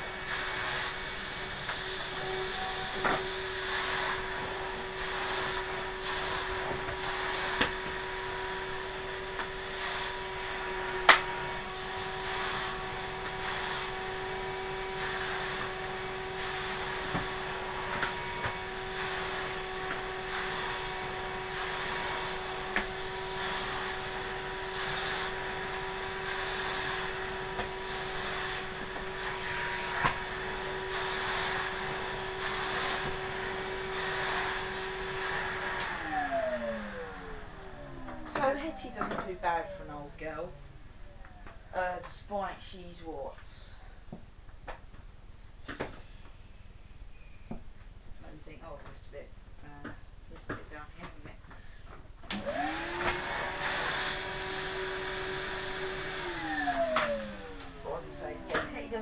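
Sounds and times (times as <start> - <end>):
vacuum cleaner running: 0.0 - 43.0, 51.9 - 59.0.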